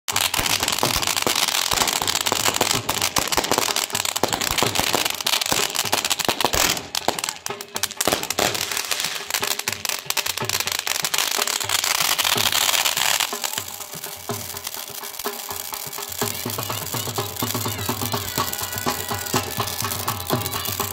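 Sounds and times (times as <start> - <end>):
firework bangs: 0.1 - 20.9
fountain fireworks hissing and crackling: 0.1 - 20.9.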